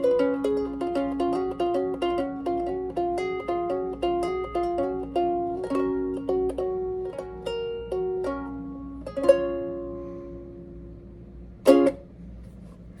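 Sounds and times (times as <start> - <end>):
ukulele chords: 0.0 - 12.6.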